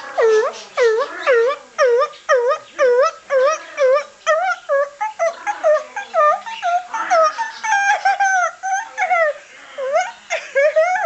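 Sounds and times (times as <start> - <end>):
parrot calling: 0.0 - 11.0.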